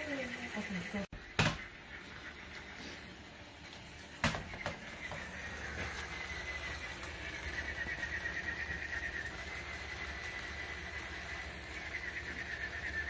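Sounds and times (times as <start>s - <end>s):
toy motor whirring: 0.0s - 3.2s, 3.8s - 13.0s
faint high whine: 0.0s - 13.0s
steady low hum: 0.0s - 13.0s.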